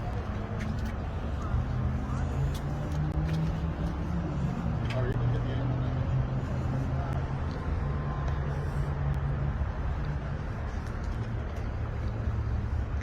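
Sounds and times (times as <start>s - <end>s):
low engine hum: 0.0s - 13.0s
outdoor background noise: 0.0s - 13.0s.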